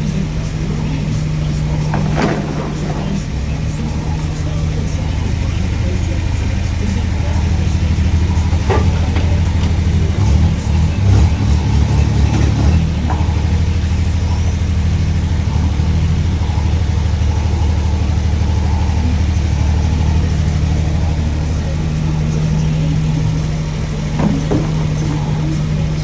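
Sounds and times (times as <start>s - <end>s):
digger engine running: 0.0s - 26.0s.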